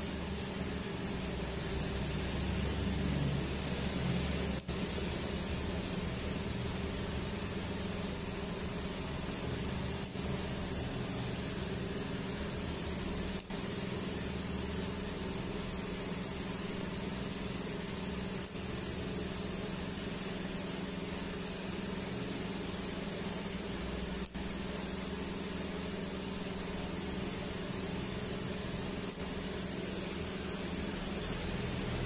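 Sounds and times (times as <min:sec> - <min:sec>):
welding set hum and hiss: 0:00.0 - 0:32.0.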